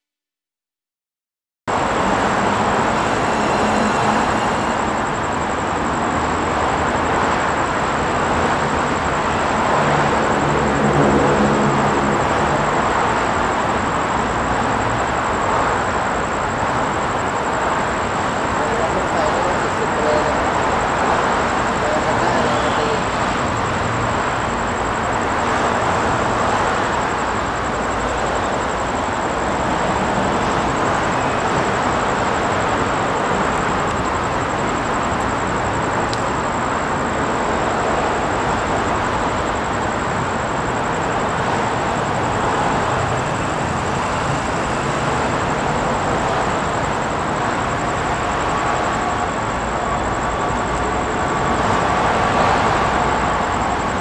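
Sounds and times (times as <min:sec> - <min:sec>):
train rumble and rail noise: 0:01.7 - 0:54.0.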